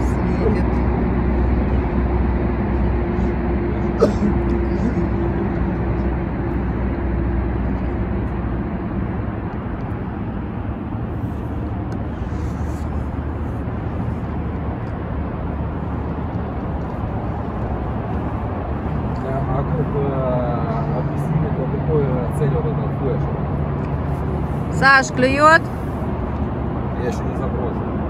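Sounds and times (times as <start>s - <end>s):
boat motor running: 0.0s - 27.7s.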